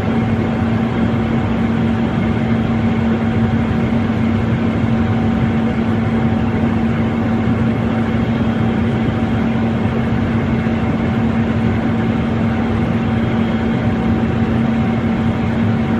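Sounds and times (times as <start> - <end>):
vehicle engine drone: 0.0 - 15.9.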